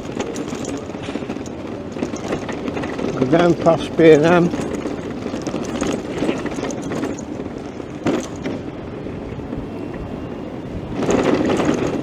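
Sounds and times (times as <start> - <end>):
busy street noise: 0.0 - 12.0
wind buffeting microphone: 0.0 - 12.0.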